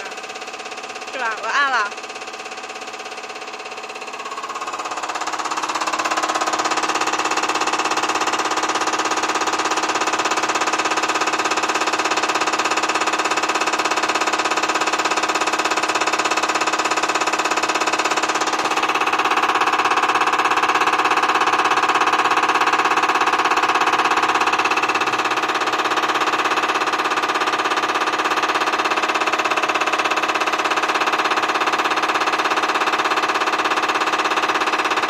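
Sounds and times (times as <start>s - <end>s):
diesel injector buzzing rattle: 0.0s - 35.0s.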